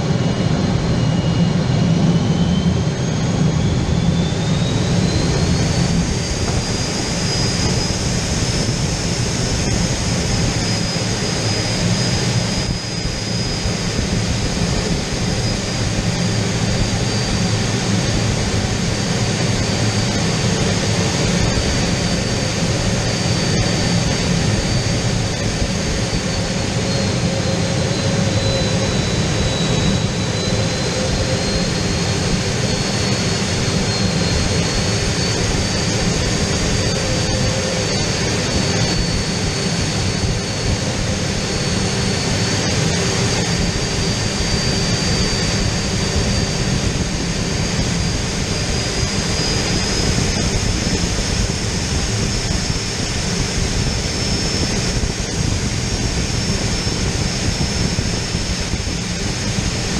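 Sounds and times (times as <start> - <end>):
high turbine whine: 0.0 - 59.9
jet engine and airflow rush: 0.0 - 59.9.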